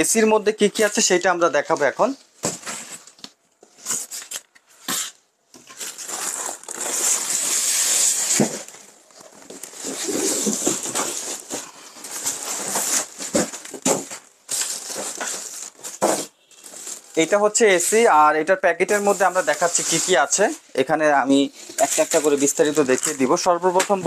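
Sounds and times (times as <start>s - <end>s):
cardboard and plastic rustling: 0.7s - 18.1s, 18.8s - 20.6s, 21.4s - 24.0s.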